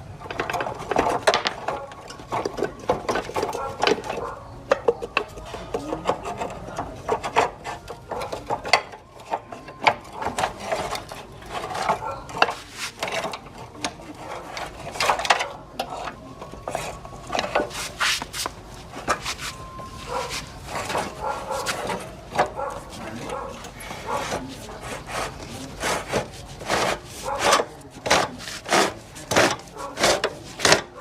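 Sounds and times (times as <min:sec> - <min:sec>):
hand scraping a workpiece: 0:04.8 - 0:31.0.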